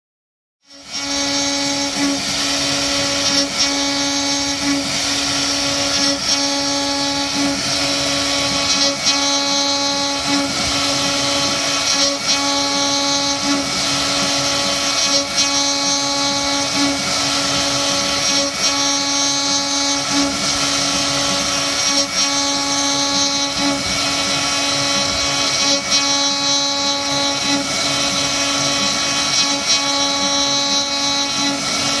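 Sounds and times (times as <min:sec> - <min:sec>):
router spindle whining: 0:00.7 - 0:32.0.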